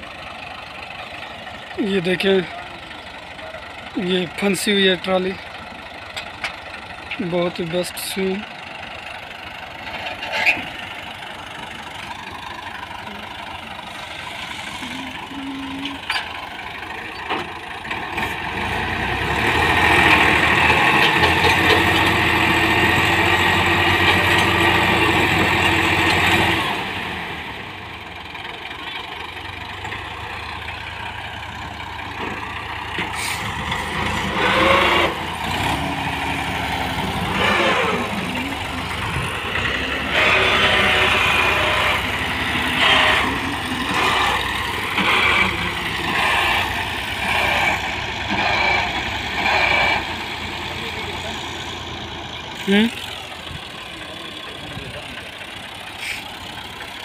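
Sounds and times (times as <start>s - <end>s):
tractor diesel engines revving: 0.0s - 57.0s.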